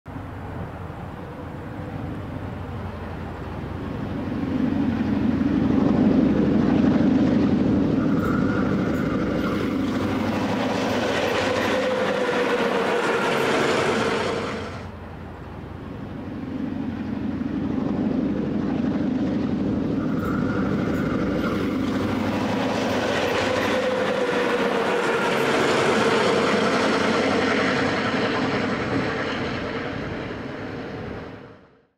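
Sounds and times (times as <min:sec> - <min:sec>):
diesel locomotive engines passing: 0:00.1 - 0:31.9
wavering whine: 0:00.2 - 0:31.6.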